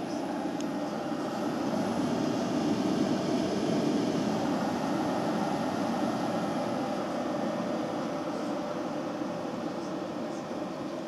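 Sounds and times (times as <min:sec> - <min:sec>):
faint high whine: 0:00.0 - 0:11.0
machine whirring drone: 0:00.0 - 0:11.0.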